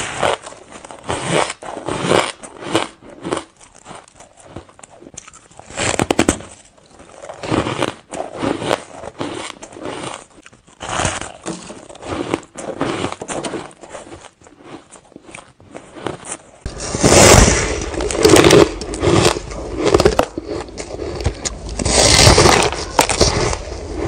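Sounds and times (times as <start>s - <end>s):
person biting crunchy ice: 0.0s - 24.0s
crunchy chewing: 0.1s - 24.0s.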